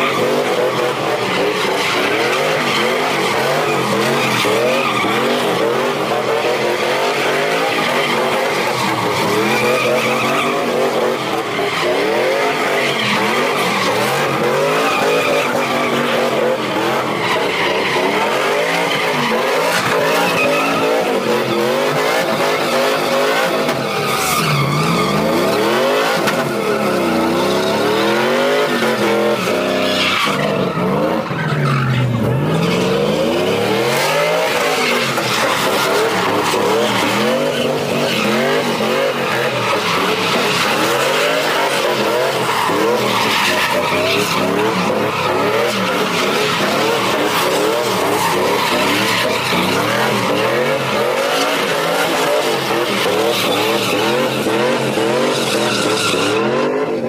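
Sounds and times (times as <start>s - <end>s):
engine revving: 0.0s - 57.0s
tyres squealing and skidding: 0.0s - 57.0s.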